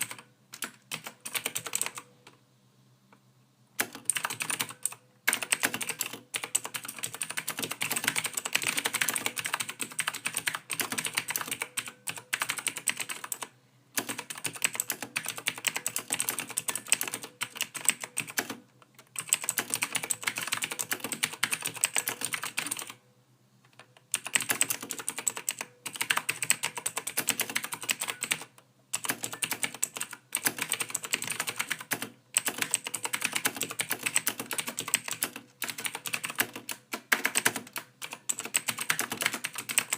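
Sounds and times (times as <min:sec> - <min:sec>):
computer keyboard typing: 0:00.0 - 0:02.1, 0:03.8 - 0:23.0, 0:23.7 - 0:39.9.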